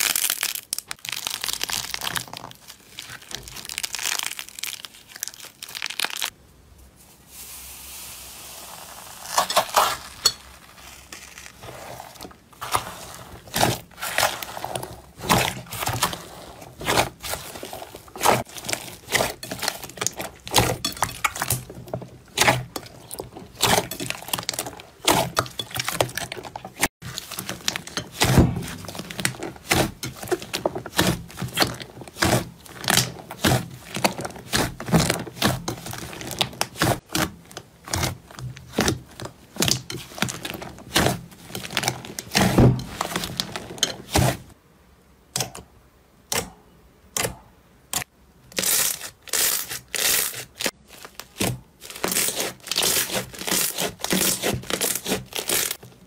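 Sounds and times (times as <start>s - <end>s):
slime squelching and popping: 0.0s - 6.3s, 9.2s - 44.4s, 48.0s - 56.0s.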